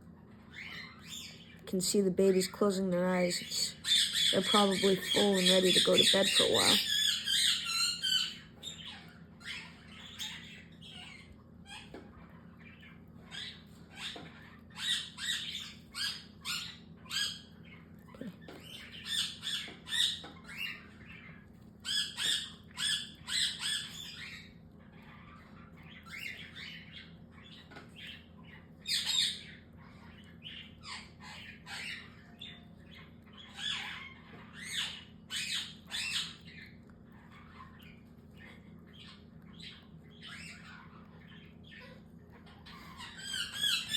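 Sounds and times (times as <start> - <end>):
cockatiel chicks calling: 0.1 - 43.9.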